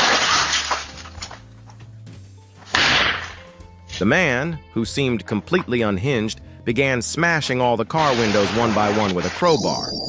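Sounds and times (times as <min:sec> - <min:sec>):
low background music: 0:00.0 - 0:10.0.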